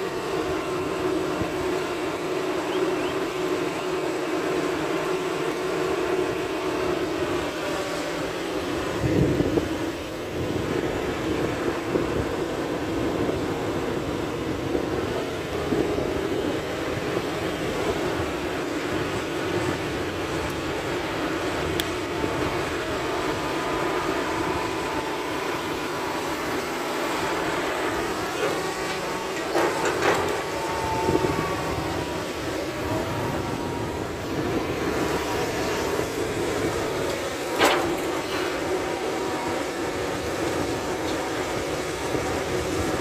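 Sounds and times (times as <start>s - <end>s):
dump truck engine: 0.0s - 43.0s
excavator engine and hydraulics: 0.0s - 43.0s.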